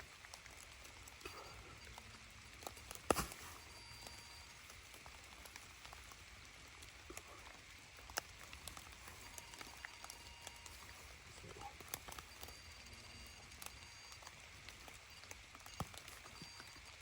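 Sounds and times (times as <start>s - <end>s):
light rain falling: 0.0s - 17.0s
rain drop ticks: 0.0s - 17.0s.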